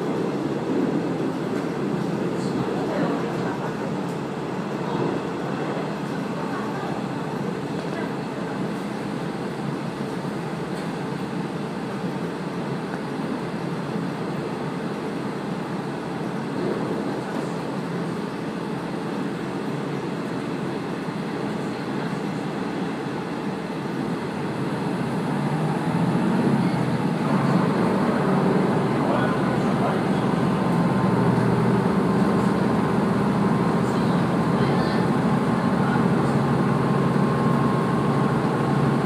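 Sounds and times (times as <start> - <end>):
train wheels on rails: 0.0 - 39.0.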